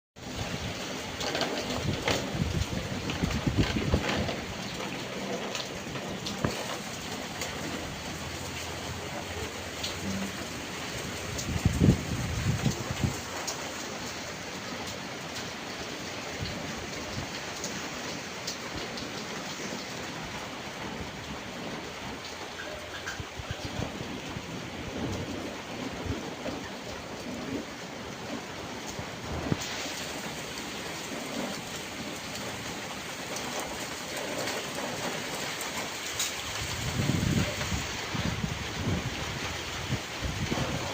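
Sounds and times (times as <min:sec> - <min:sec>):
raindrops ticking: 0:00.2 - 0:40.9
steady rain shower: 0:00.2 - 0:40.9.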